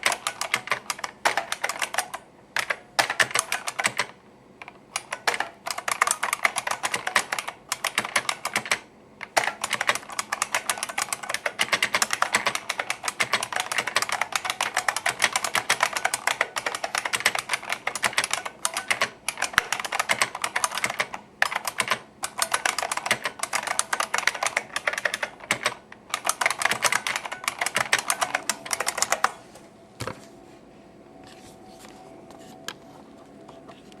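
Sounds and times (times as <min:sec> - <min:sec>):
keyboard keys clicking in typing: 0:00.0 - 0:29.4
faint hum: 0:00.0 - 0:34.0.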